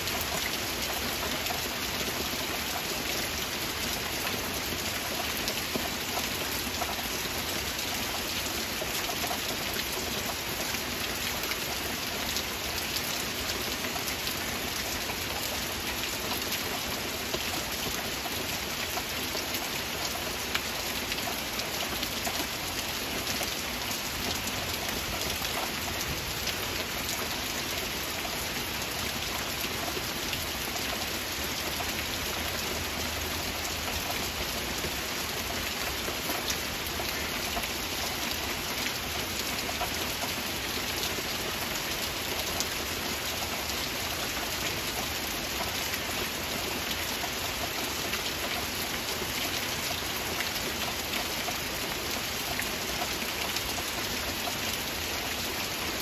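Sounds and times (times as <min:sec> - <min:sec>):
heavy rain: 0:00.0 - 0:56.0
raindrops ticking close by: 0:00.0 - 0:56.0.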